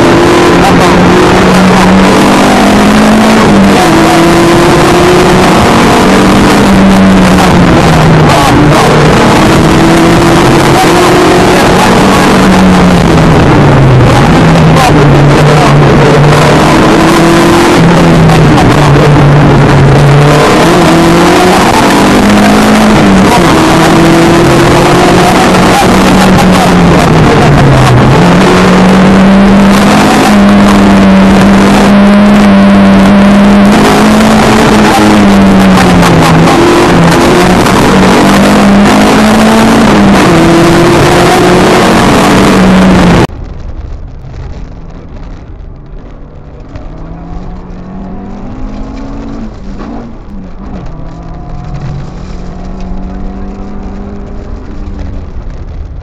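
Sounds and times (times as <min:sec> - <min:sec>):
rally car engine at high revs: 0:00.0 - 0:43.6, 0:44.5 - 0:56.0.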